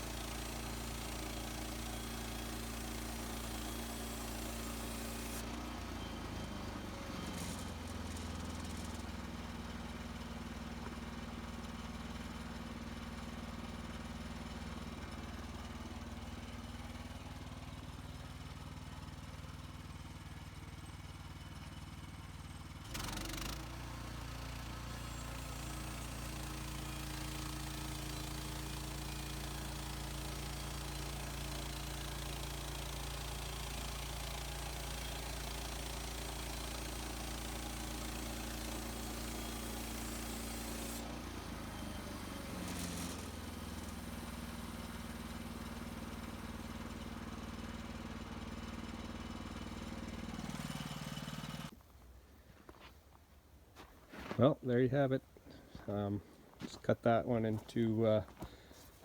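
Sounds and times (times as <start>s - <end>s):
small engine running: 0.0s - 51.8s.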